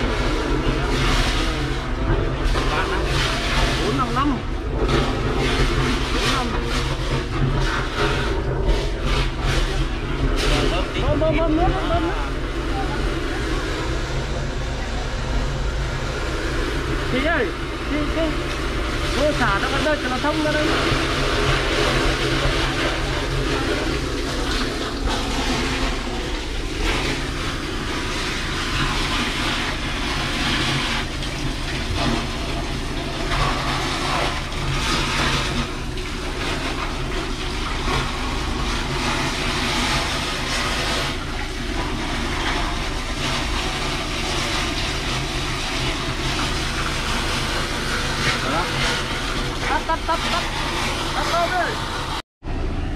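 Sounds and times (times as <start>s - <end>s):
truck engine running: 0.0s - 52.9s
water rushing: 0.0s - 52.9s.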